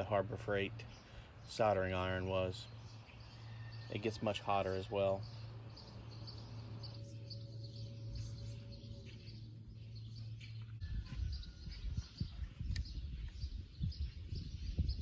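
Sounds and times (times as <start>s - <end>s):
low steady hum: 0.0s - 14.4s
small birds chirping: 0.0s - 15.0s.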